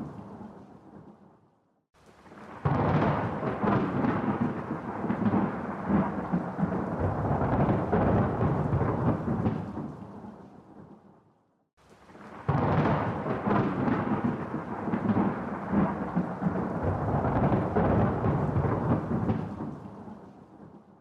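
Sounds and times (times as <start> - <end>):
thunder clap rumbling: 2.2 - 11.0, 12.1 - 20.8.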